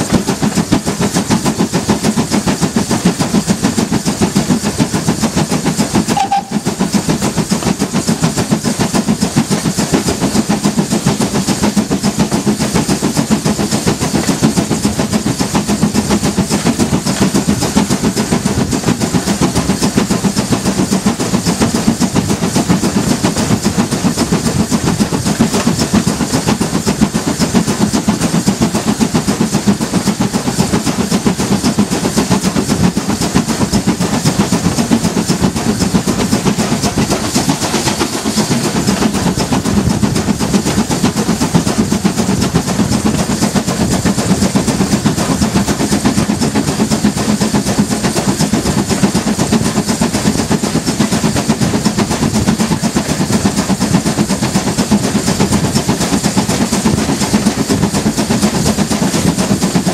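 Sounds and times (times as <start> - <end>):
steam locomotive exhaust beat: 0.0 - 59.9.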